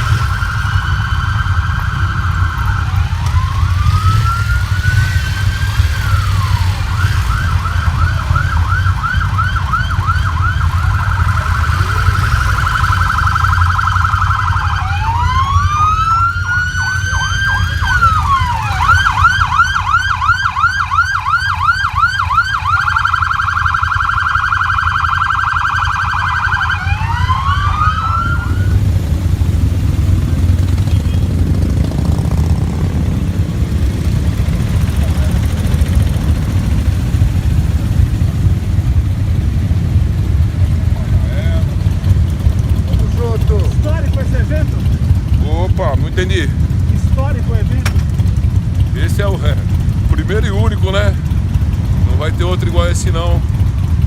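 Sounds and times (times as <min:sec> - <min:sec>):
emergency vehicle siren: 0:00.0 - 0:54.0
low rumble of engines: 0:00.0 - 0:54.0.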